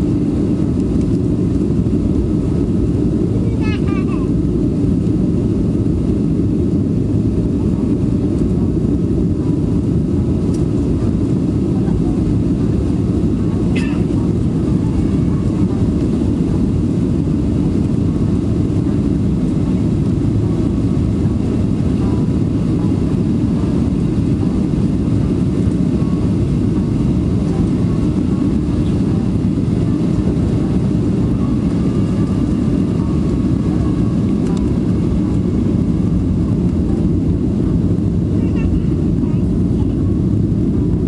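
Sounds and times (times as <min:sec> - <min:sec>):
jet engines roaring: 0:00.0 - 0:41.0
rushing airflow: 0:00.0 - 0:41.0.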